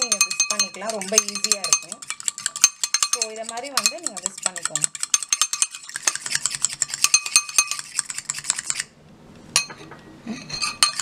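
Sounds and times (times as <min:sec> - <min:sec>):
fork clicking against glass bowl: 0:00.0 - 0:08.9, 0:10.6 - 0:11.0.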